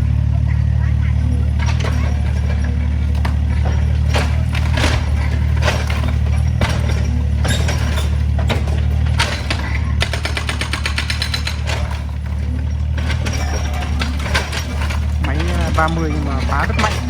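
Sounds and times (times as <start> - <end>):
excavator diesel engine: 0.0 - 17.0
house being broken apart: 1.1 - 17.0
fast rattling clatter: 1.3 - 17.0.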